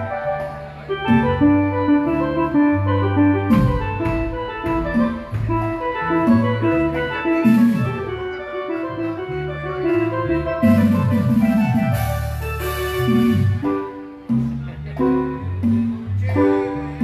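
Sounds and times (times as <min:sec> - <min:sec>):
bass line: 0:00.0 - 0:17.0
electronic keyboard melody: 0:00.0 - 0:17.0.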